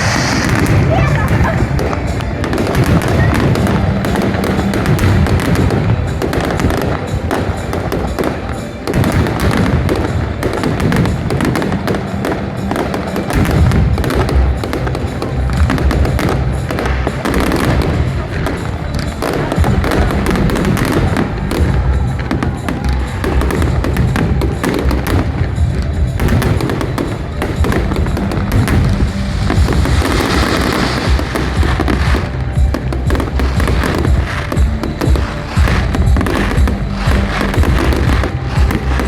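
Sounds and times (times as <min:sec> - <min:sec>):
fireworks bangs and crackles: 0:00.0 - 0:39.0
loud music: 0:00.0 - 0:39.0.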